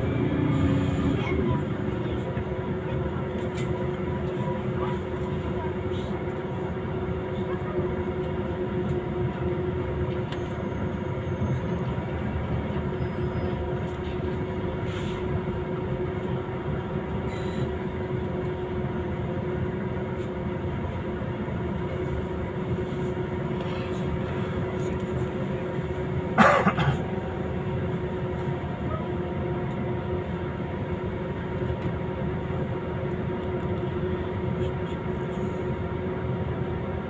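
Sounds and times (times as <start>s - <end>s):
bus engine rumbling: 0.0s - 37.0s
constant whine: 0.0s - 37.0s.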